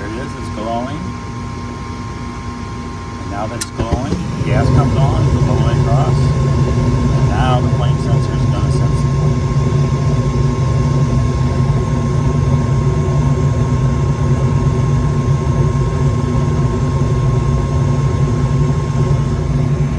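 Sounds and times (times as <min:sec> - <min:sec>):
inducer motor whine: 0:00.0 - 0:19.9
furnace low rumble: 0:02.0 - 0:19.9.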